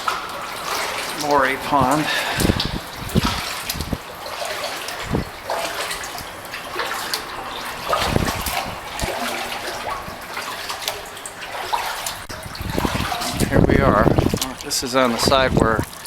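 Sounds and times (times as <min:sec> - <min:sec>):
paddle splashing in water: 0:00.0 - 0:16.0
water trickling off paddle: 0:00.0 - 0:16.0.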